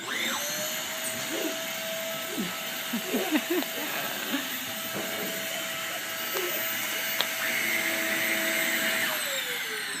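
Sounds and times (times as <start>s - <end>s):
vacuum cleaner motor whine: 0.0s - 10.0s.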